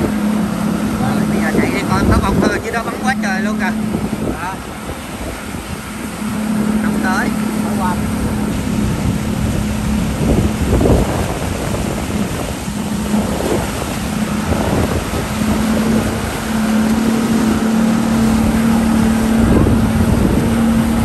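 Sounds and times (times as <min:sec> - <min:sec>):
motorboat engine droning: 0:00.0 - 0:21.0
wind buffeting microphone: 0:00.0 - 0:21.0.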